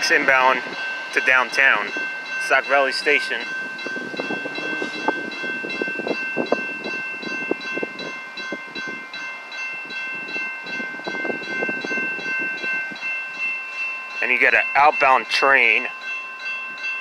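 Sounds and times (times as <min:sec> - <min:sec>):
crossing warning bell ringing: 0:00.0 - 0:17.0.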